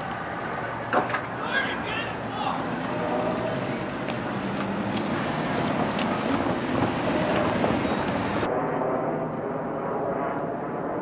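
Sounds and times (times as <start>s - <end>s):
vehicle engine noise: 0.0s - 11.0s.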